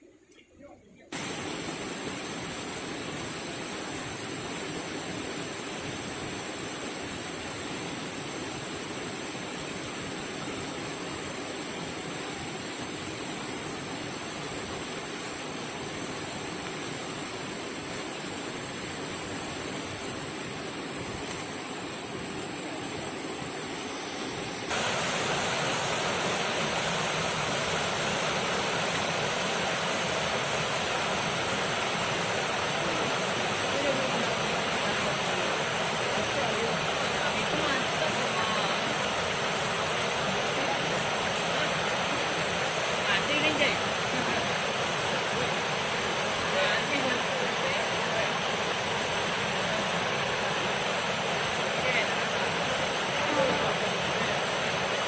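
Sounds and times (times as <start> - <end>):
waterfall rushing: 1.1 - 55.0.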